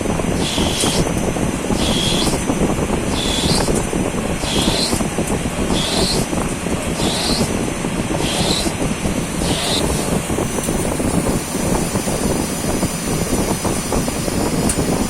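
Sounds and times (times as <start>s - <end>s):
lathe mechanical rumble: 0.0s - 15.0s.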